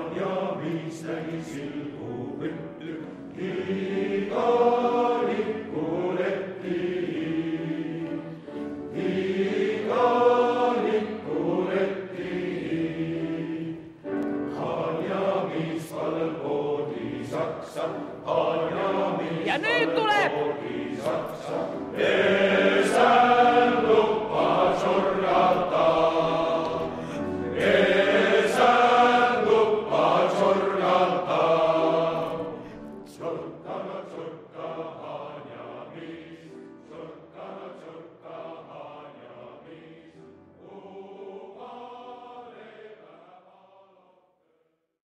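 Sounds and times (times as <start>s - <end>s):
men's choir singing: 0.0s - 44.3s.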